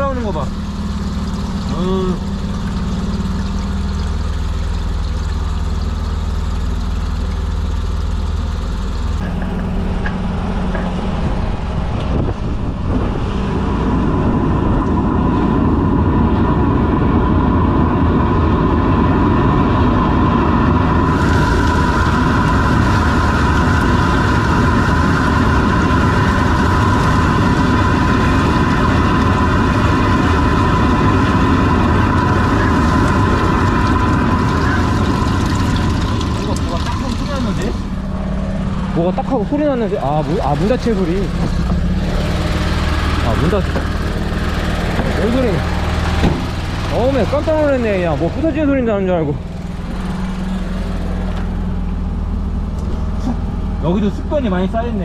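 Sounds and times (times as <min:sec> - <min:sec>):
drain-cleaning machine running: 0:00.0 - 0:55.0.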